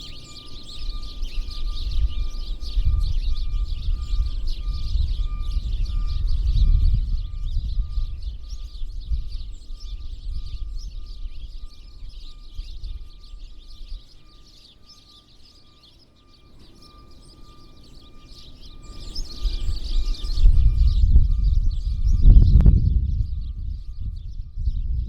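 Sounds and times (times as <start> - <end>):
wind rumble on microphone: 0.0 - 14.5, 16.4 - 25.0
small birds chirping: 0.0 - 25.0.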